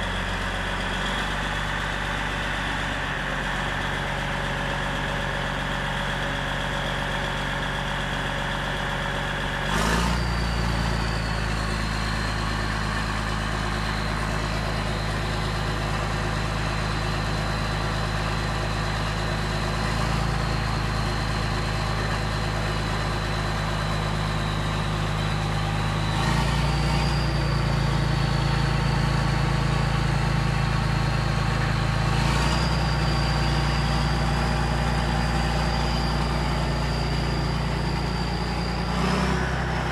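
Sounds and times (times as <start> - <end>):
diesel engine running: 0.0 - 39.9
high turbo whine: 0.0 - 39.9.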